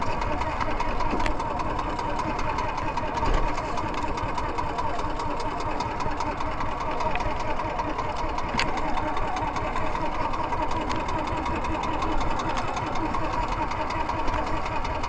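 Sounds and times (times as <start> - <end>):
boat engine knocking: 0.0 - 15.0.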